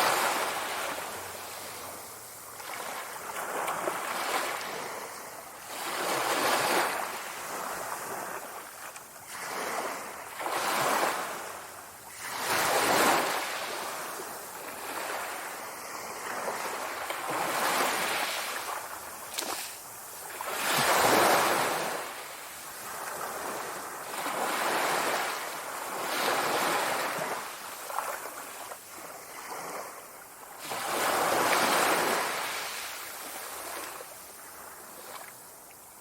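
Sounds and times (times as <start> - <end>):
sea waves surging: 0.0 - 35.3.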